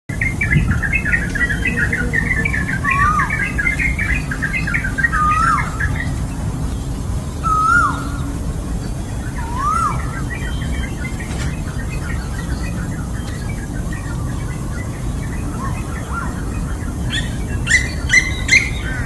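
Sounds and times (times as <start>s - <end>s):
songbird twittering: 0.1s - 19.0s
steady low rumble: 0.1s - 19.0s.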